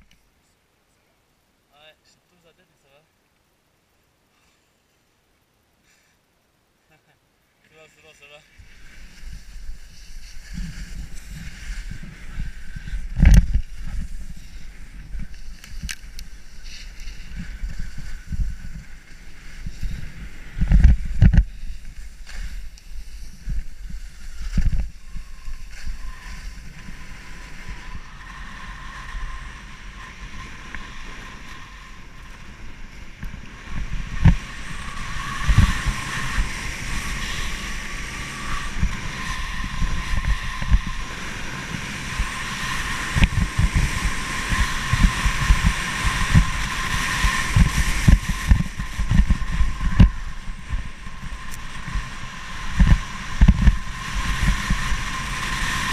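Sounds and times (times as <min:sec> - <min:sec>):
skis scraping on snow: 0:07.7 - 0:55.9
wind buffeting microphone: 0:08.6 - 0:55.9.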